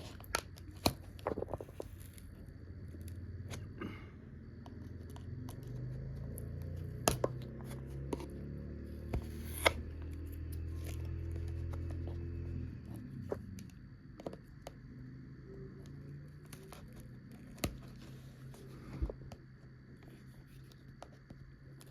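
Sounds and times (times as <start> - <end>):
low hum: 0.0 - 21.8.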